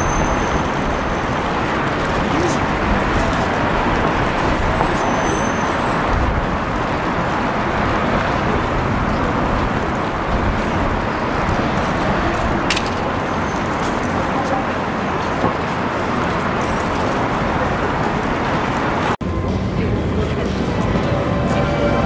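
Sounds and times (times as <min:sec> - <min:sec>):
crowd murmur outdoors: 0:00.0 - 0:22.0.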